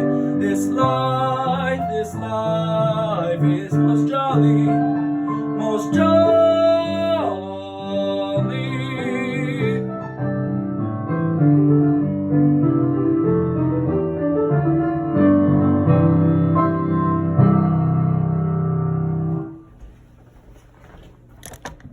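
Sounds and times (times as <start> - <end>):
piano chords: 0.0 - 19.8.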